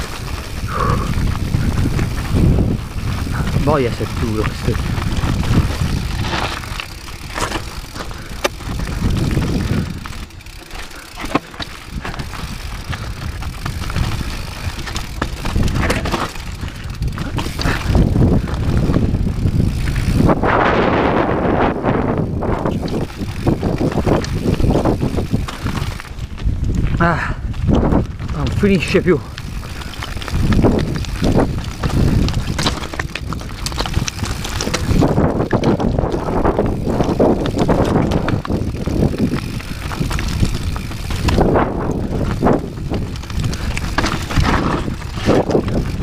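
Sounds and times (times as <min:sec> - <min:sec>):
bike knocks and rattles: 0:00.0 - 0:20.9, 0:21.6 - 0:46.0
bike tyres crunching over stones: 0:00.0 - 0:46.0.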